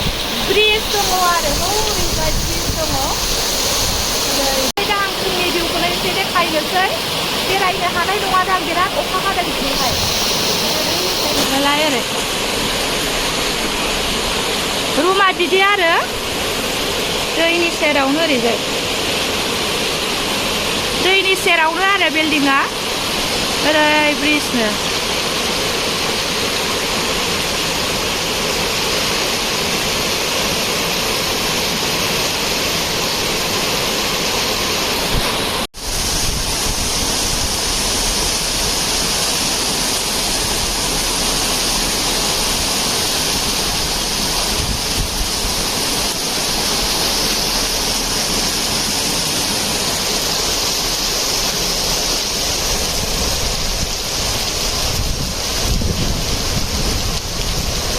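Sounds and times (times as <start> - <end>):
heavy rain rushing: 0.0 - 57.9.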